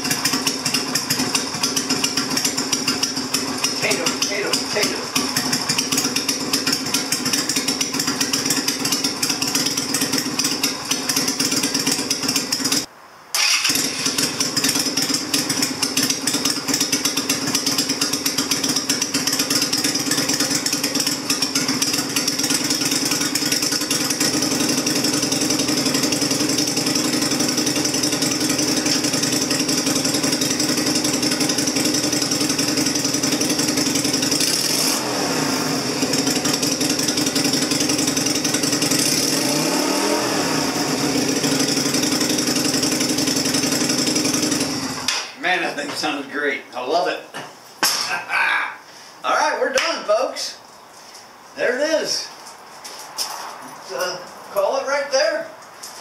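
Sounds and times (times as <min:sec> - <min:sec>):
motorcycle engine running: 0:00.0 - 0:45.1.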